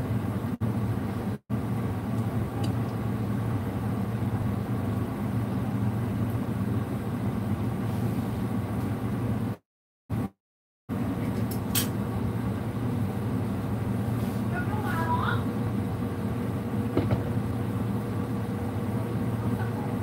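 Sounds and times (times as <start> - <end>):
low mechanical hum: 0.0 - 10.3, 10.9 - 20.0.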